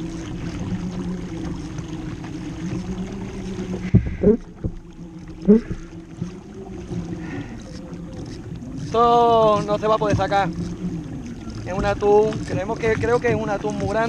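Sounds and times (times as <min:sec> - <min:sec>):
steady low hum: 0:00.0 - 0:14.0
water rushing along kayak hull: 0:00.0 - 0:14.0.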